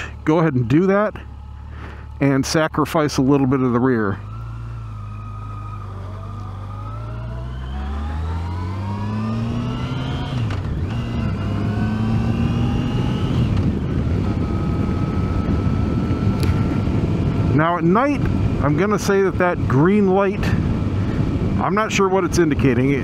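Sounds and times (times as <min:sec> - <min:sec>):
motorcycle engine accelerating: 0:00.0 - 0:21.6
road and wind noise: 0:00.0 - 0:23.0.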